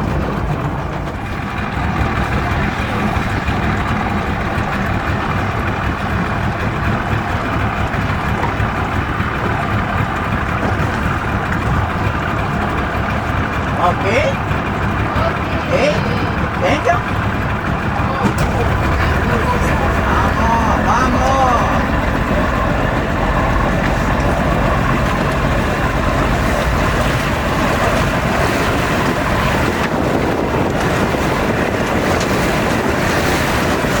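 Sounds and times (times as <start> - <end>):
wind buffeting the microphone: 0.0 - 34.0
motor running: 1.8 - 32.8.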